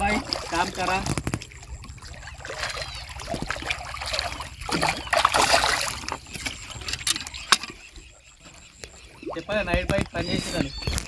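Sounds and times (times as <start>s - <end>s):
fish thrashing and splashing: 0.0s - 11.0s.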